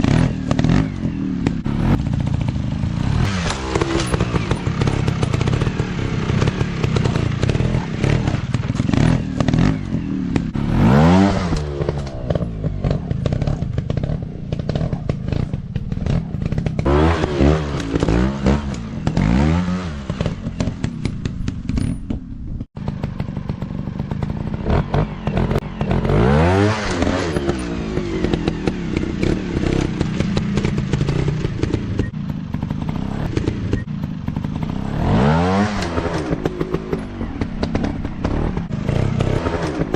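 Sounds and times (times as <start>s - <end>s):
dirt bike engine revving: 0.0s - 22.0s, 22.6s - 39.9s.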